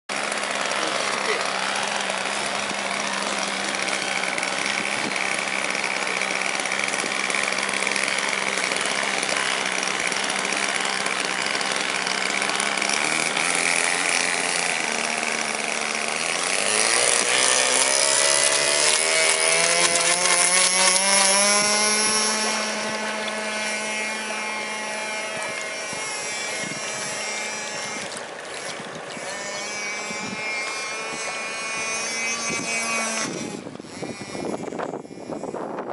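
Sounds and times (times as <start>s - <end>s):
model plane motor buzzing: 0.1s - 35.9s.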